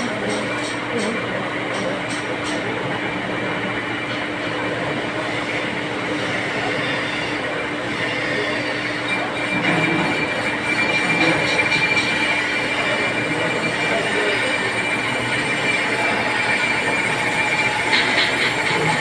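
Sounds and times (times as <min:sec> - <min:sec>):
metal lathe whining: 0:00.0 - 0:19.0.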